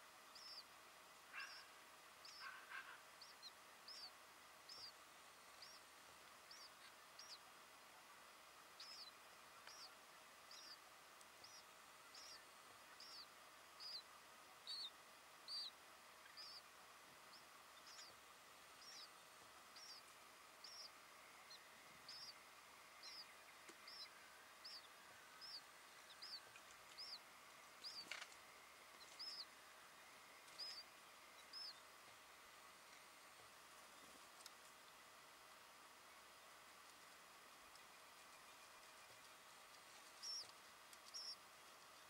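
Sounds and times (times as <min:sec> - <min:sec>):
bird chirping: 0:00.2 - 0:00.7, 0:01.3 - 0:07.5, 0:08.7 - 0:32.0, 0:37.5 - 0:42.0.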